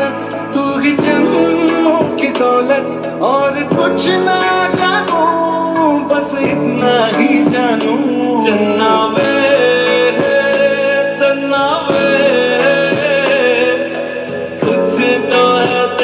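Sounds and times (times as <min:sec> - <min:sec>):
pop song from small speaker: 0:00.0 - 0:16.0.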